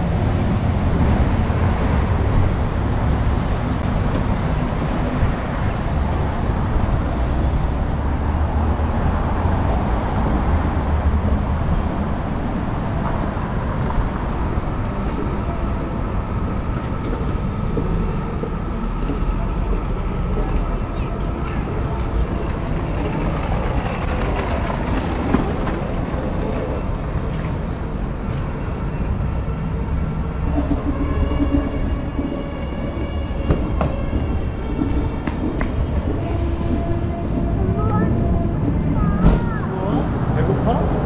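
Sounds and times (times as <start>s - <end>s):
rumble of passing cars: 0.0s - 41.0s.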